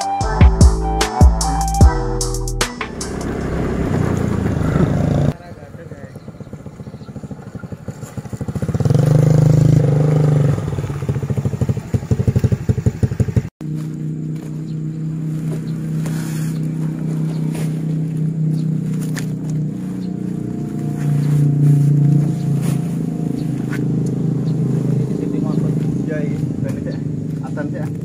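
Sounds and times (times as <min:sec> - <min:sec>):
motorcycle riding past: 0:02.7 - 0:28.0
motorcycle idling: 0:02.8 - 0:28.0.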